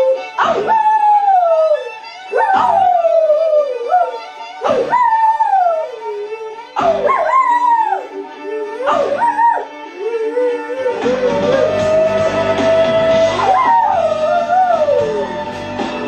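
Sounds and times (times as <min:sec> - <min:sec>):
dog howling: 0:00.0 - 0:15.4
music playing: 0:00.0 - 0:16.0.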